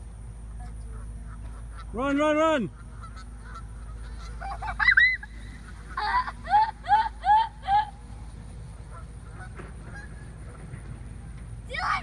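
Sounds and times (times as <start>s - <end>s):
geese honking: 0.4s - 11.4s.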